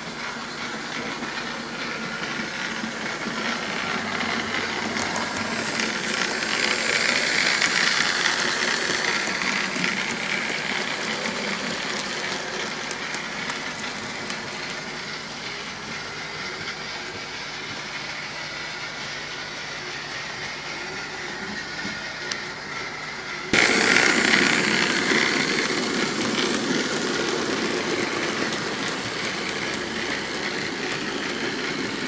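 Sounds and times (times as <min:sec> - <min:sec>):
model train running on track: 0:00.0 - 0:32.0
light clicks over rails: 0:00.6 - 0:17.9, 0:23.6 - 0:32.0.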